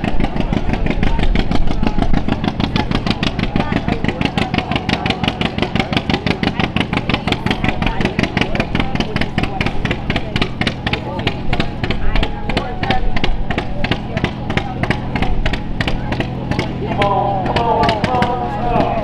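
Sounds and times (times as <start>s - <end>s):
tractor engine exhaust popping: 0.0s - 19.0s.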